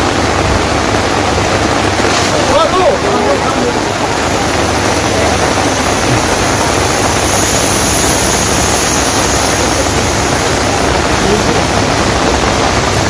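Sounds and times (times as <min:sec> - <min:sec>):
heavy rain on umbrellas and tarp: 0:00.0 - 0:13.0.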